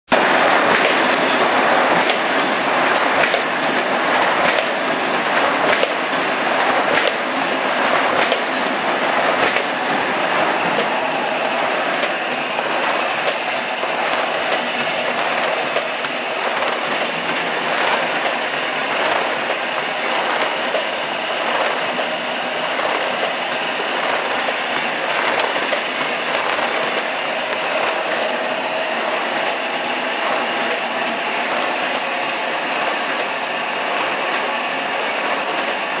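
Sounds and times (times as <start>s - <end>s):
die-cutter machine clatter: 0.1s - 36.0s.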